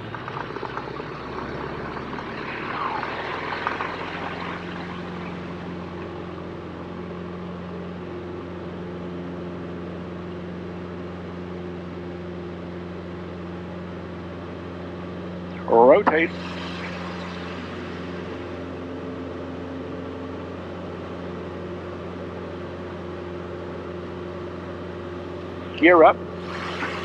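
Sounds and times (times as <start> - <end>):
light aircraft engine and propeller: 0.0 - 27.0.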